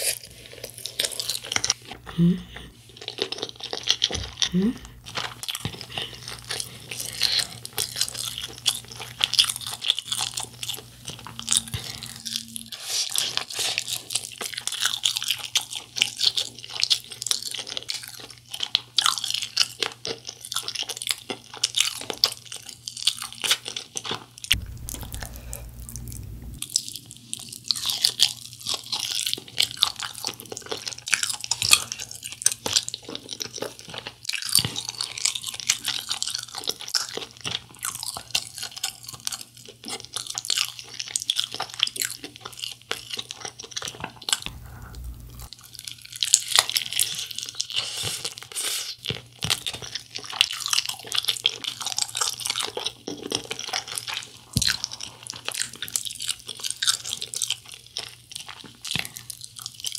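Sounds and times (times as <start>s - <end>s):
crunching and chewing: 0.0s - 59.9s.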